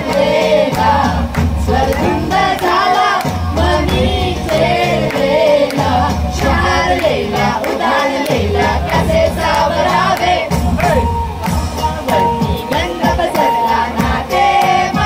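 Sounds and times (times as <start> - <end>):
amplified music with bass beat: 0.0 - 15.0
group singing into a microphone: 0.0 - 15.0.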